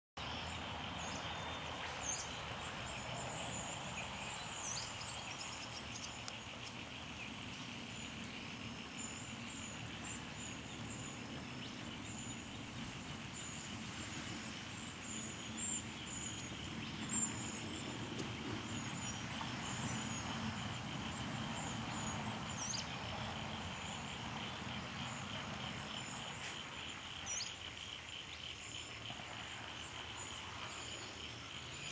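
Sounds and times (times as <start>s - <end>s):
insect drone: 0.2s - 31.9s
small birds chirping: 0.2s - 31.9s.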